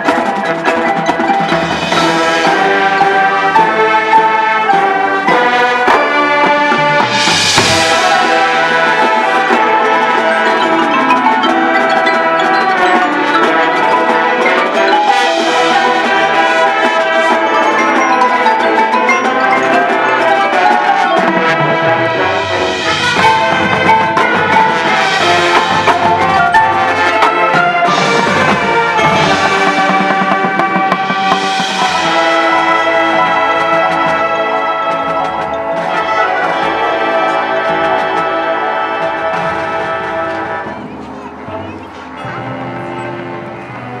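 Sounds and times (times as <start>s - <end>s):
marimba and glockenspiel: 0.0s - 40.0s
marching band playing: 0.0s - 44.0s.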